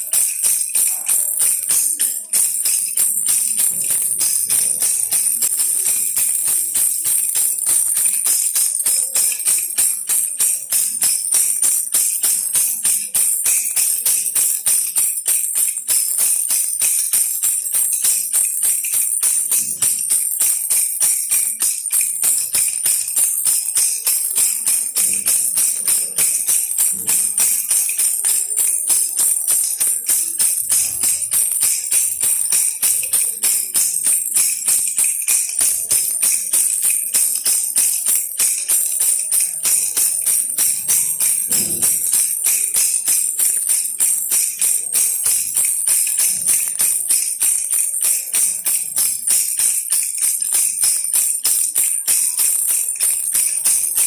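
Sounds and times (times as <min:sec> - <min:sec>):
baby rattle shaken: 0:00.0 - 0:54.0.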